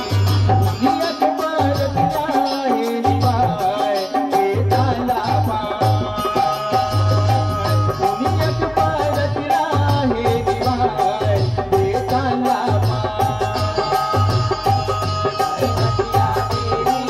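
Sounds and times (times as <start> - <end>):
drum beats: 0.0 - 17.0
man singing into a microphone: 0.0 - 17.0.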